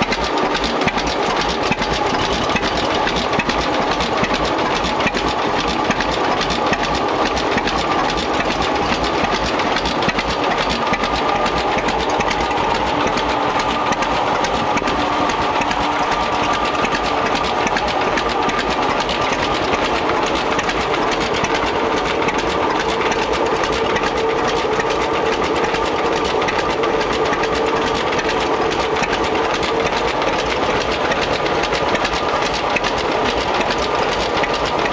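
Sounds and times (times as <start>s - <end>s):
tractor engine clattering: 0.0s - 34.9s.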